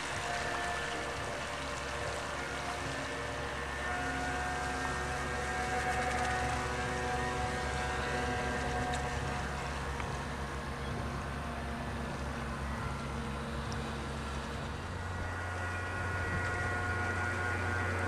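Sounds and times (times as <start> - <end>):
model boat motor whining: 0.0 - 18.0.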